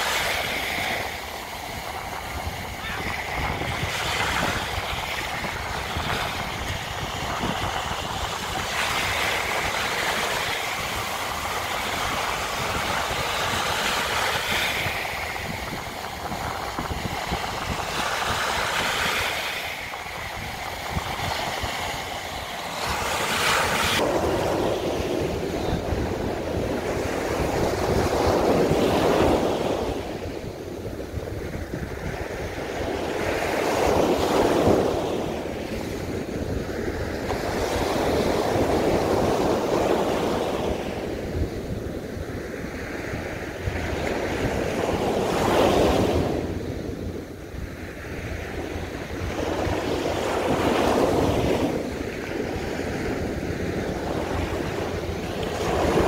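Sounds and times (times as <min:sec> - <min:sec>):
small waves breaking on beach: 0:00.0 - 0:56.0
wind buffeting microphone: 0:00.0 - 0:56.0.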